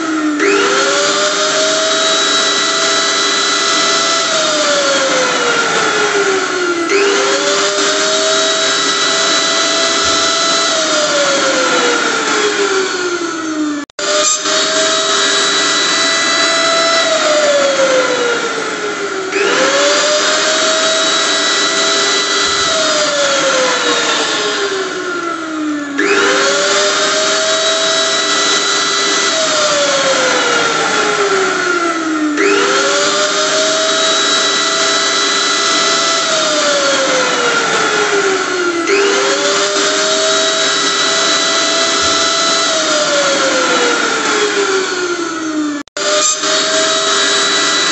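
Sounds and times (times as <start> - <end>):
electric blender motor whirring: 0.0 - 47.9.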